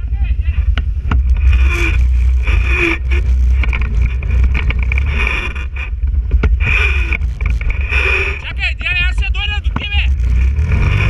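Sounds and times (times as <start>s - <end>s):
quad bike engine rumbling: 0.0s - 11.0s.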